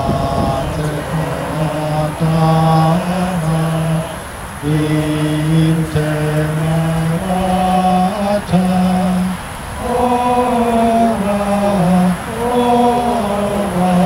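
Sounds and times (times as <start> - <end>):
men singing a hymn in unison: 0.0 - 14.0.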